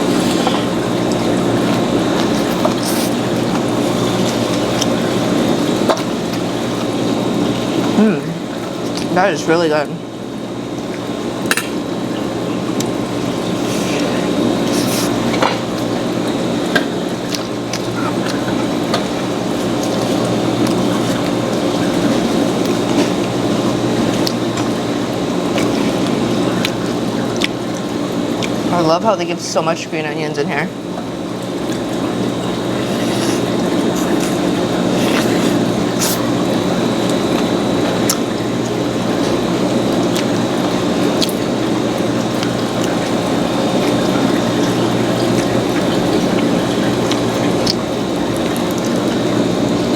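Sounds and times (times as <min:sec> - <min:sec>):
wet chewing: 0:00.0 - 0:09.1, 0:12.7 - 0:28.7, 0:31.4 - 0:49.9.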